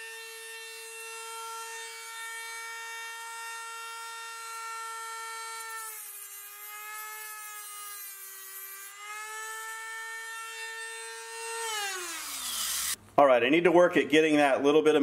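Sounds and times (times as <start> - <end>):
rotary tool whining cutting metal: 0.0 - 13.0.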